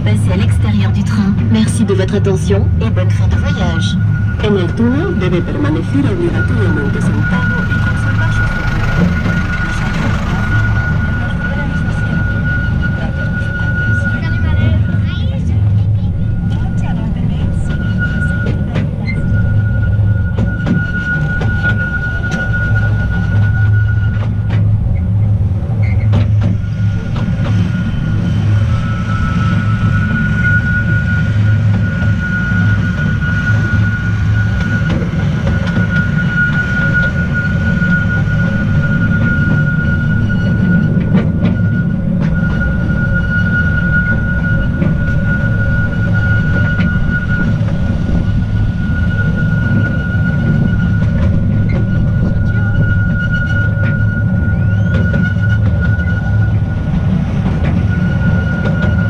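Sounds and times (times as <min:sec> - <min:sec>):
train rumble and whine: 0:00.0 - 0:59.0.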